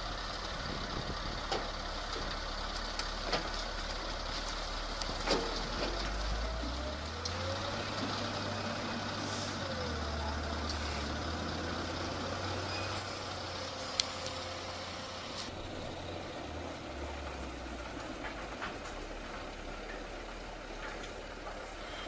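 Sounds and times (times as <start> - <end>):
heavy machine engine humming: 0.0 - 22.0.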